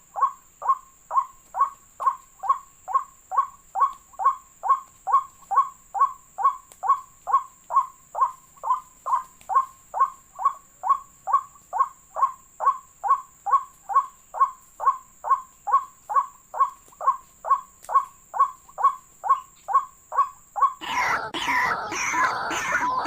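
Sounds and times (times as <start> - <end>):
waterhen calling: 0.2 - 23.0.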